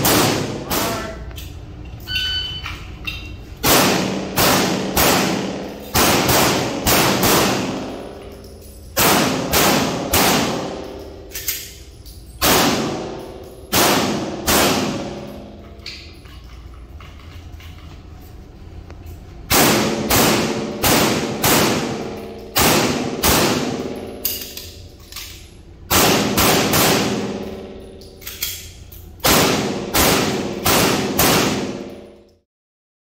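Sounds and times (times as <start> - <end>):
pistol shots ringing indoors: 0.0 - 1.4, 2.0 - 17.0, 19.0 - 32.4.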